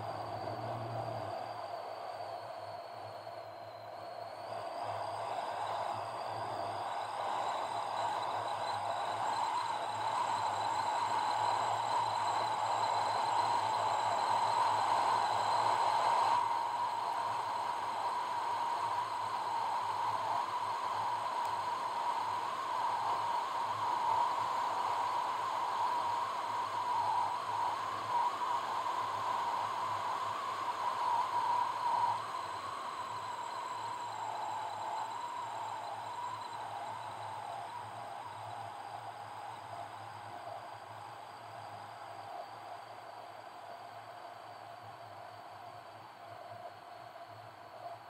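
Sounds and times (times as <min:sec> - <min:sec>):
faint high whine: 0:00.0 - 0:48.0.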